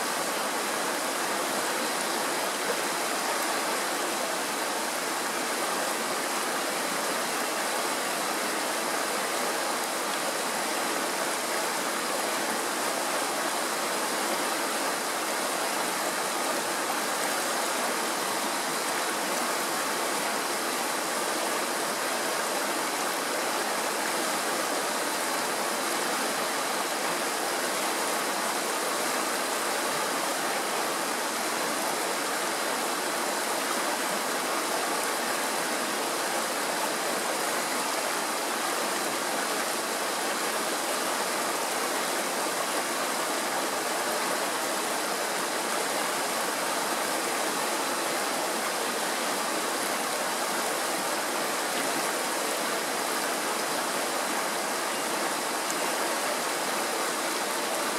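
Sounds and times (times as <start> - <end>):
stream rushing over rocks: 0.0 - 57.9.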